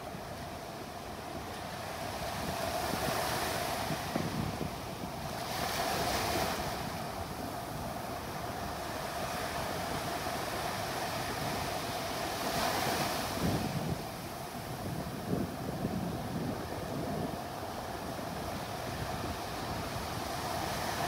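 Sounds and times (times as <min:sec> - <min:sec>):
wind buffeting microphone: 0:01.3 - 0:21.0
surf breaking on beach: 0:01.9 - 0:21.0.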